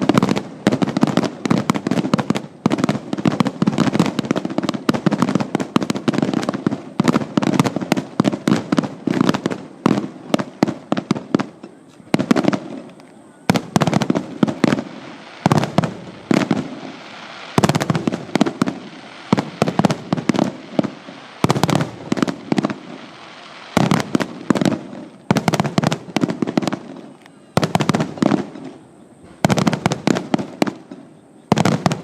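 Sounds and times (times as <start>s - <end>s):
fireworks bursts and crackling: 0.0s - 32.0s.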